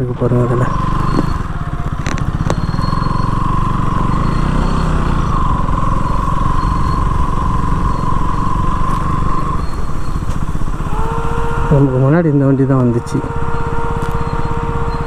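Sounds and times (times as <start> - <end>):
motorcycle engine running: 0.0 - 15.0
steady whine: 0.0 - 15.0.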